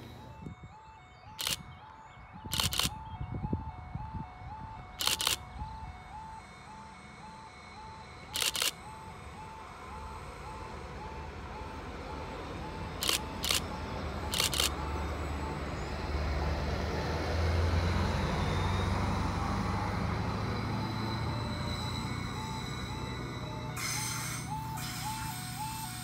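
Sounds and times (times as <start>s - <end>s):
level crossing alarm tones: 0.0s - 26.0s
train engine and wheels rumbling: 0.0s - 26.0s.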